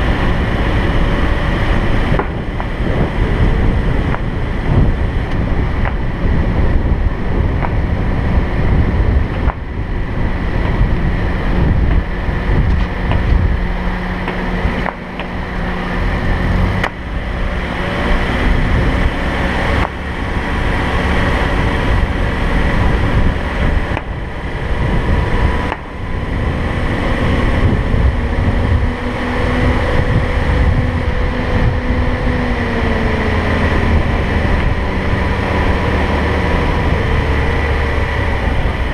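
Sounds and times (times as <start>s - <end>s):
car engine: 0.0s - 38.9s
car road and wind noise: 0.0s - 38.9s.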